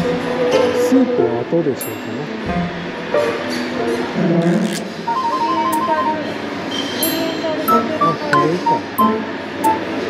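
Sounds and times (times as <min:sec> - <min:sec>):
light instrumental music: 0:00.0 - 0:04.2, 0:05.1 - 0:10.0.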